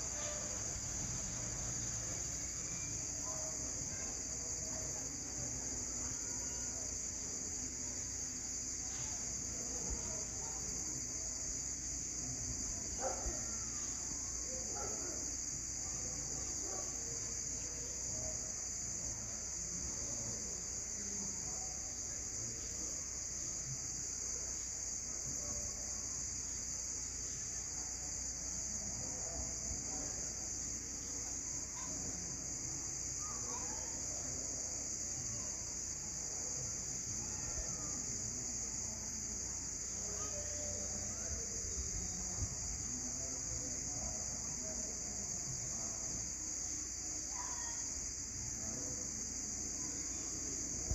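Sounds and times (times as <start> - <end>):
faint insect chirps: 0.0 - 50.9
insects shrill drone: 0.0 - 50.9.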